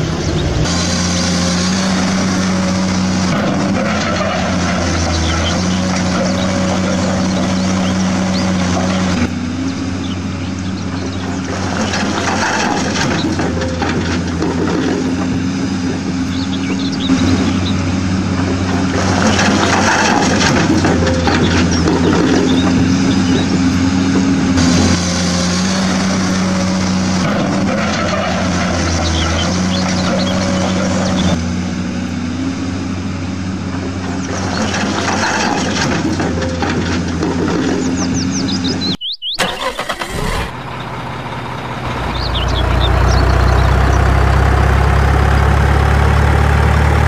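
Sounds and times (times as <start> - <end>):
low engine drone: 0.0 - 47.0.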